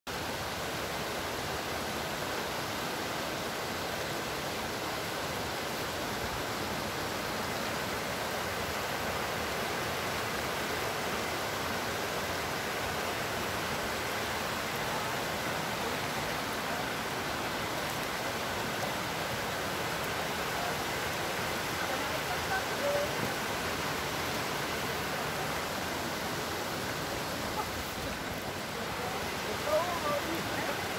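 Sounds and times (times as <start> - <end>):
stream rushing over stones: 0.1 - 30.9.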